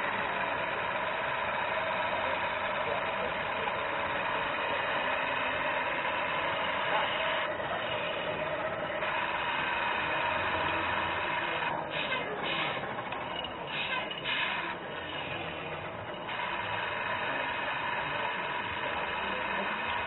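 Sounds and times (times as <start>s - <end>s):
model truck motor whirring: 0.0s - 20.0s.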